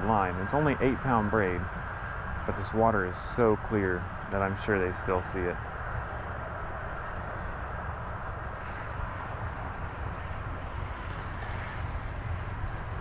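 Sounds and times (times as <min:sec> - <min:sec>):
outdoor rushing noise: 0:00.0 - 0:13.0.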